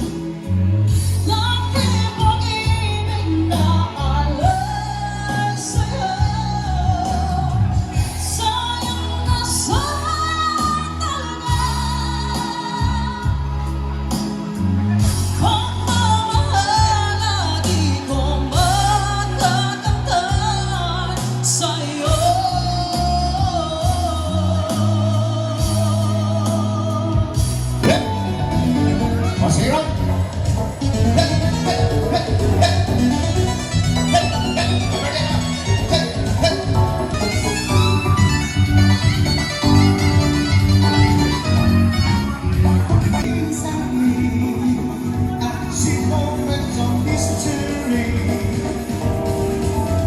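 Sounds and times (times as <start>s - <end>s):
pop ballad singing: 0.0s - 39.0s, 42.8s - 50.0s
backing track with bass beat: 0.0s - 50.0s.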